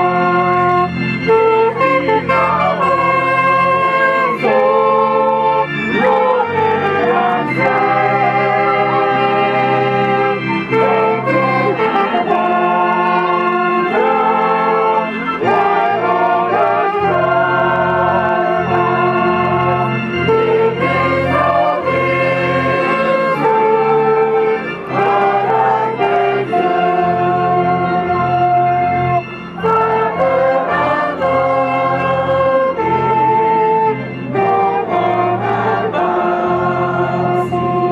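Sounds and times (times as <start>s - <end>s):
organ music: 0.0s - 37.9s
person singing: 0.0s - 37.9s.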